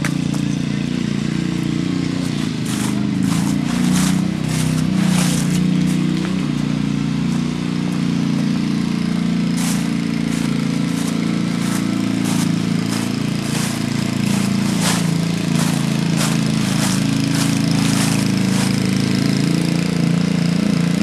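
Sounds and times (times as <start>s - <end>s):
footsteps in dry leaves: 0.0s - 20.3s
small engine running: 0.0s - 21.0s.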